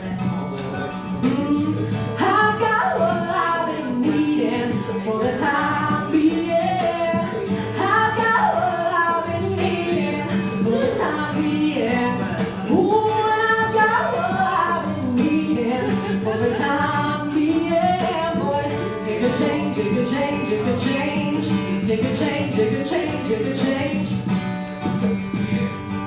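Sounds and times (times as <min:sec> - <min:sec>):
acoustic guitar: 0:00.0 - 0:26.0.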